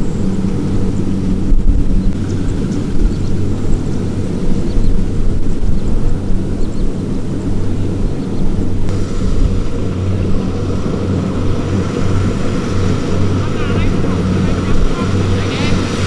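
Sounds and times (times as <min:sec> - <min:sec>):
diesel engine low drone: 0:00.0 - 0:16.0.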